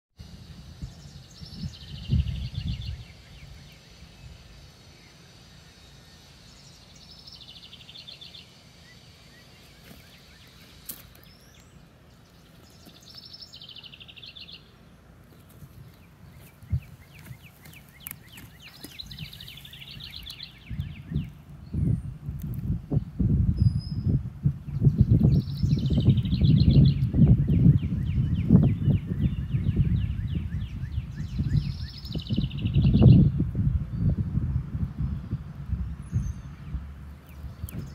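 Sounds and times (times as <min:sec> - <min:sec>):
songbird trilling: 0:00.7 - 0:22.2, 0:22.9 - 0:34.2.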